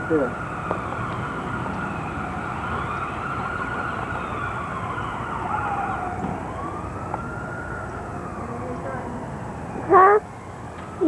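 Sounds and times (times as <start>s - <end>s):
ambulance siren wailing: 0.0s - 11.0s.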